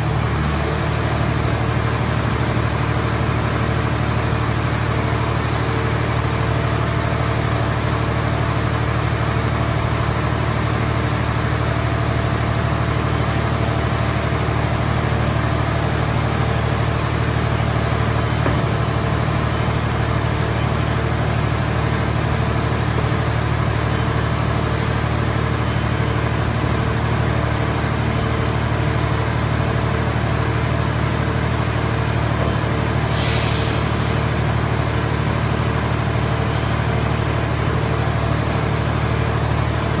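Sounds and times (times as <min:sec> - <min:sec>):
hydraulic power unit droning: 0:00.0 - 0:40.0.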